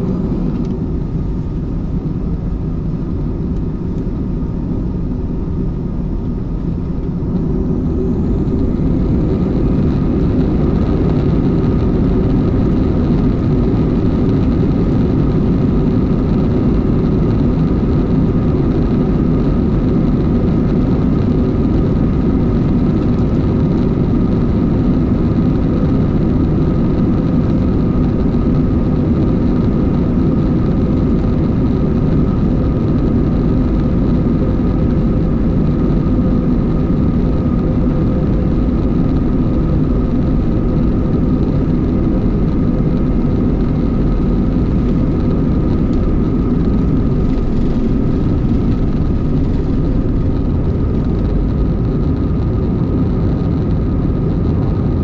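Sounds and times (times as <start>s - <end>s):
jet engine rumble in cabin: 0.0s - 55.0s
thin steady engine whine: 0.0s - 55.0s.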